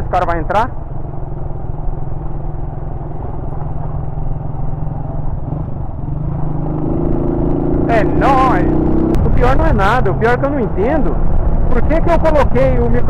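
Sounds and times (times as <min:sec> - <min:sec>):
motorcycle engine running: 0:00.1 - 0:13.0.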